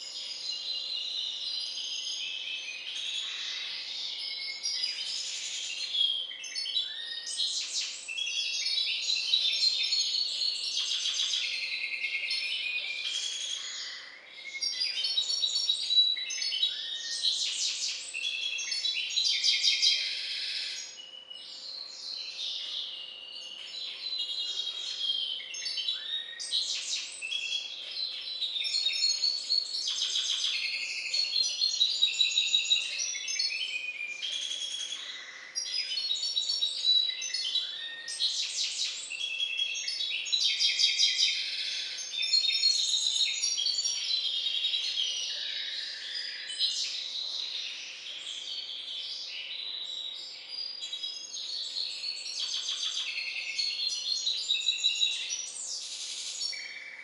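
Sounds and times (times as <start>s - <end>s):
finch singing trills and chirps: 0.0s - 57.0s.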